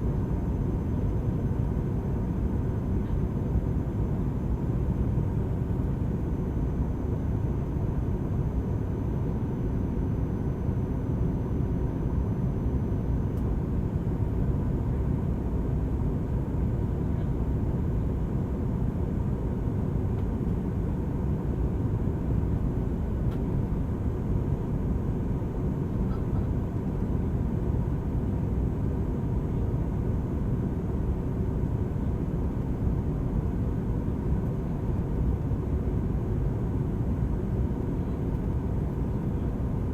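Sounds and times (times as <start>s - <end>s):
low rumble of airflow and engines: 0.0s - 39.9s.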